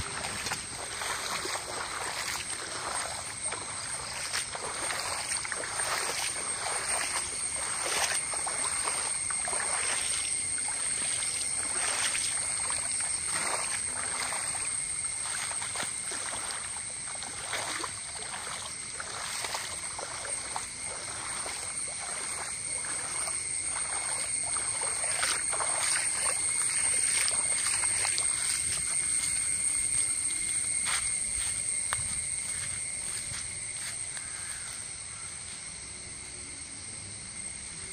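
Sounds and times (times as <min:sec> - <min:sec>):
floodwater splashing and trickling: 0:00.0 - 0:34.8.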